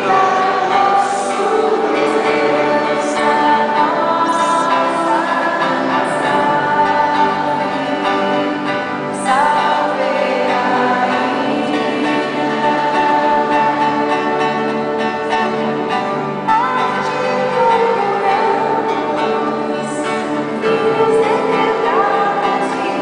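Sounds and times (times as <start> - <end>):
choir singing a hymn: 0.0 - 23.0
instrumental accompaniment: 0.0 - 23.0.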